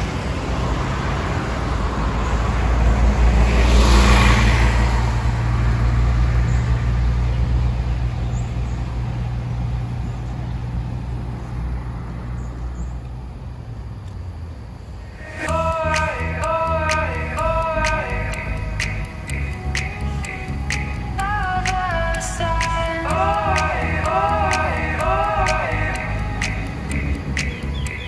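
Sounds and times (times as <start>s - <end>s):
large vehicle passing: 0.0s - 28.0s.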